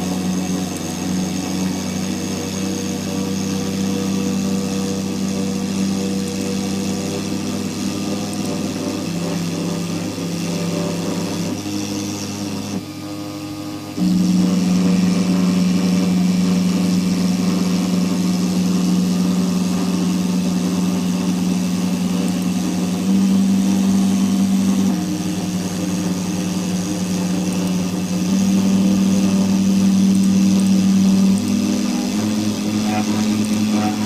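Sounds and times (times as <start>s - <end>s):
router machine whine: 0.0s - 34.0s.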